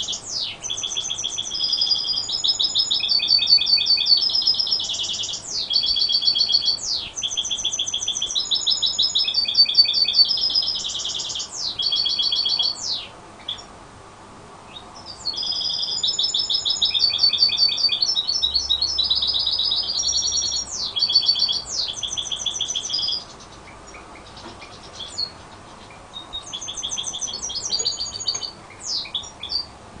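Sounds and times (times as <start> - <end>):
songbird trilling and twittering: 0.0 - 13.7, 14.7 - 29.8.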